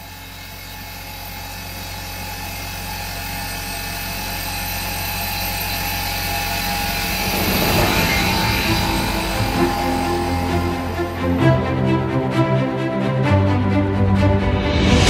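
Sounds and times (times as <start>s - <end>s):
milling machine cutting metal: 0.0s - 12.1s.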